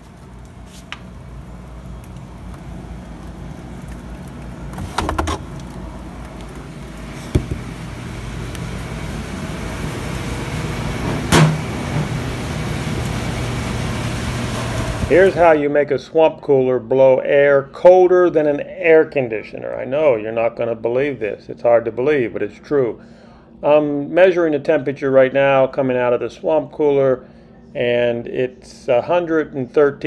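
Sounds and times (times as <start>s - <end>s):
cooler fan humming: 0.0s - 16.7s, 17.3s - 29.8s.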